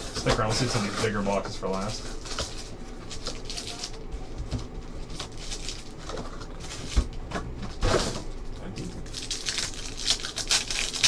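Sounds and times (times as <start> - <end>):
foil packs crinkling: 0.0 - 7.2, 9.0 - 11.0.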